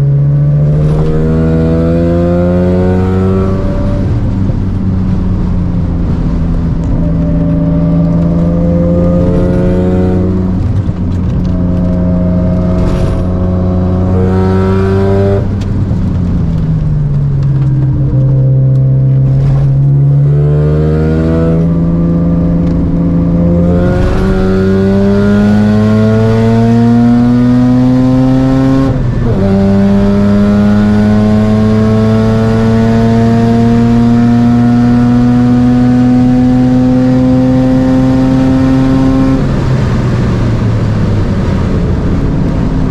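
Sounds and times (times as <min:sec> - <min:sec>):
rotary engine accelerating: 0:00.2 - 0:42.9.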